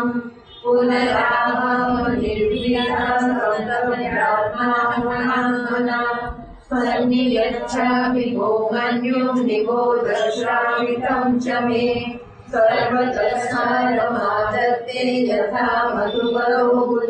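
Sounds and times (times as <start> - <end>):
woman chanting melodically: 0.0 - 17.0.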